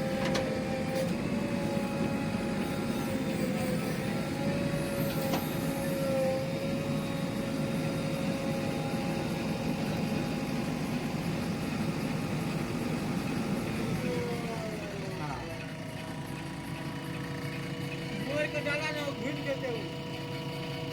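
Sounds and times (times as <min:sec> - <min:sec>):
diesel engine running: 0:00.0 - 0:20.9
machine whine: 0:00.0 - 0:20.9.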